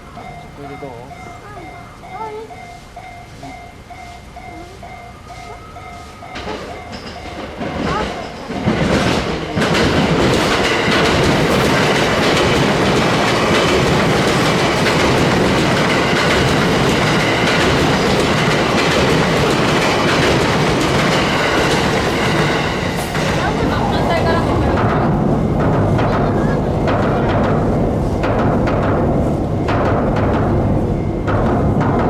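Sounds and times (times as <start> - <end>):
electric train passing: 0.0 - 32.0
level crossing warning bell: 0.0 - 32.0.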